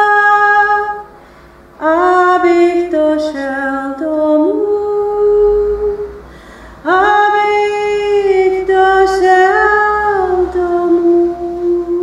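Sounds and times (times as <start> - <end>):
woman singing unaccompanied: 0.0 - 1.2, 1.8 - 12.0.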